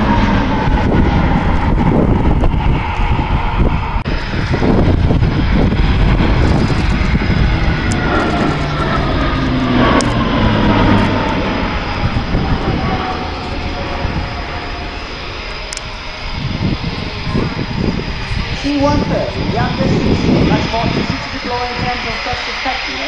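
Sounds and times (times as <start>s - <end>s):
turboprop aircraft passing: 0.0s - 23.0s.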